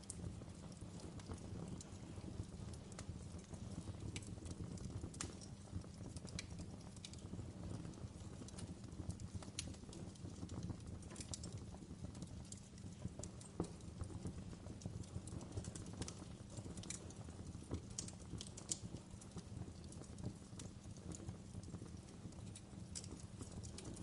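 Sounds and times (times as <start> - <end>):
fire rumbling: 0.0 - 24.0
logs crackling and popping: 0.0 - 24.0.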